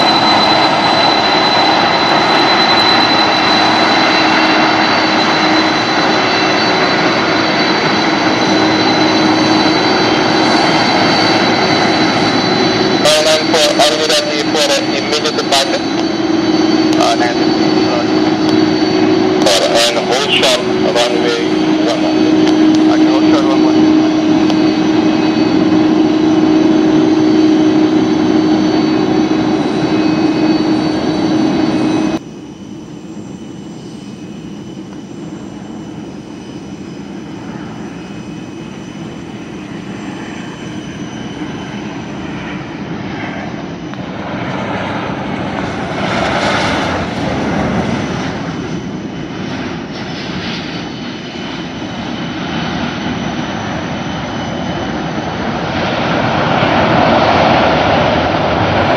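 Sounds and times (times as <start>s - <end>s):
arriving jet engines rumbling: 0.0s - 58.9s
jet engine whine: 0.0s - 58.9s.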